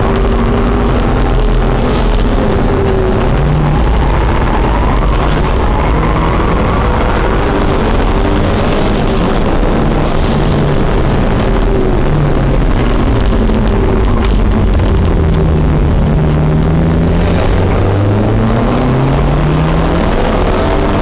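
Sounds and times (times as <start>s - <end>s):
car engine revving: 0.0s - 21.0s
road and wind noise: 0.0s - 21.0s.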